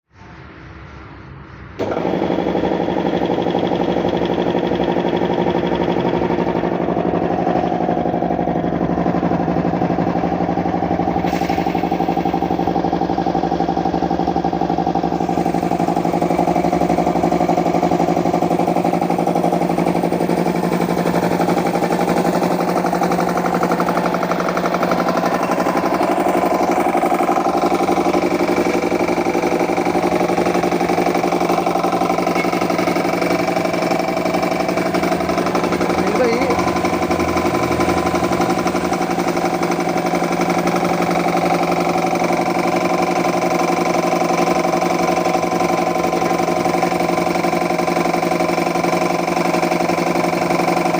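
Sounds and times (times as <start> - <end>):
air compressor knocking: 1.8 - 50.9.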